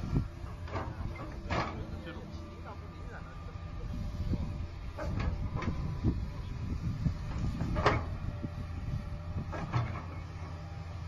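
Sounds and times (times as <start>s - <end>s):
machine engine running: 0.0s - 11.0s.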